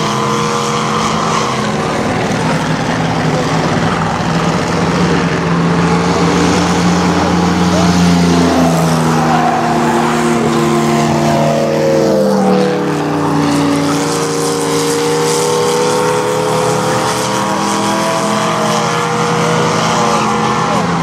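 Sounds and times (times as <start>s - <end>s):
stock car engines racing: 0.0s - 21.0s.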